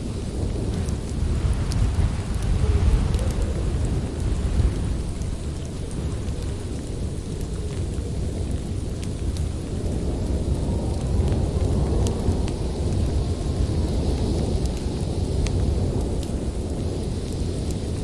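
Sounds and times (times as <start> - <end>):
storm wind blowing: 0.0 - 18.0
wood fire crackling: 0.0 - 18.0.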